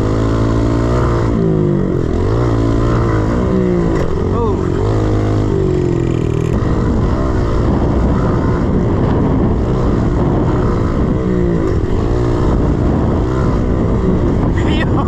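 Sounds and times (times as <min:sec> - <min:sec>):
motorcycle engine revving: 0:00.0 - 0:15.0
wind on microphone: 0:00.0 - 0:15.0.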